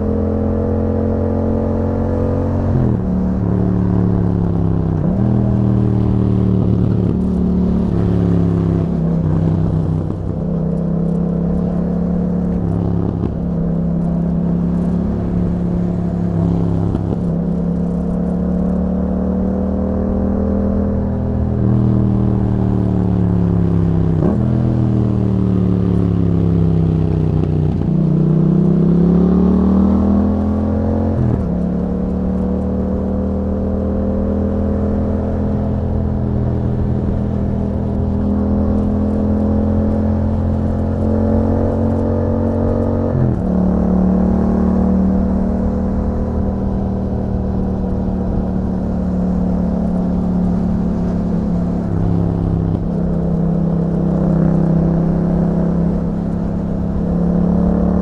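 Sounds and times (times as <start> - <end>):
motorcycle engine revving: 0.0 - 58.0
gear changes: 1.0 - 58.0.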